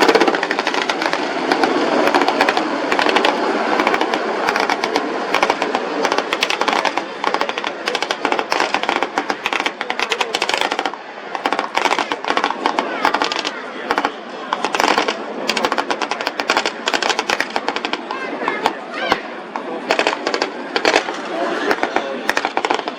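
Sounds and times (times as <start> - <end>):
rapid blank gunfire: 0.0 - 19.3, 19.9 - 22.9
steady background noise: 0.0 - 22.9.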